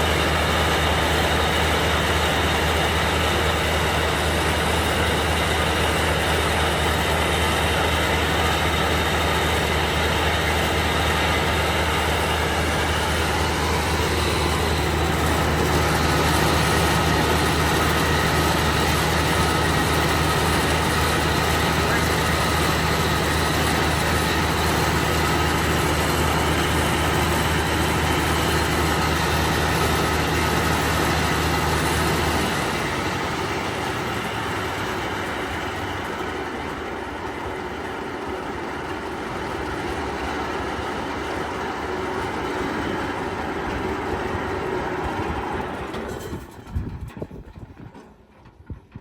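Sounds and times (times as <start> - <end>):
low engine hum: 0.0 - 48.0
corn sheller mechanical clatter: 0.0 - 49.0.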